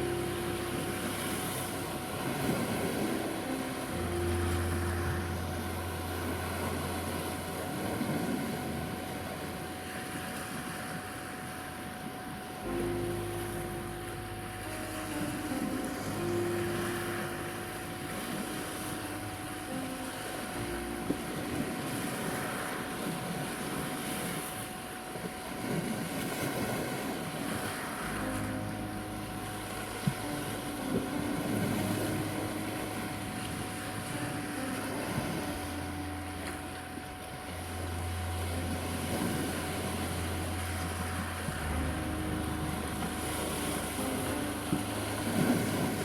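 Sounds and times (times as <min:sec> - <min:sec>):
continuous pure tone: 0:00.0 - 0:46.0
low droning synth pad: 0:00.0 - 0:46.0
low hum: 0:00.0 - 0:46.0
sea surf washing: 0:00.0 - 0:46.0.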